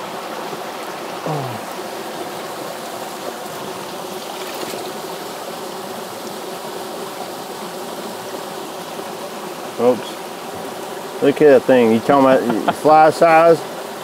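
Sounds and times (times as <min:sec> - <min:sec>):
creek flowing over rocks: 0:00.0 - 0:14.0.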